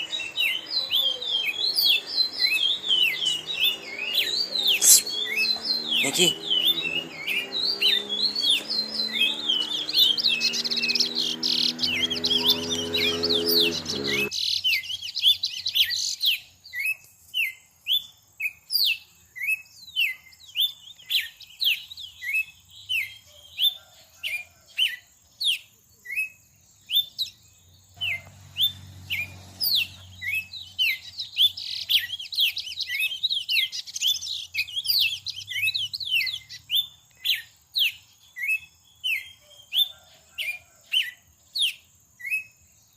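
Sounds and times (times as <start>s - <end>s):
small bird chirping: 0.0s - 42.9s.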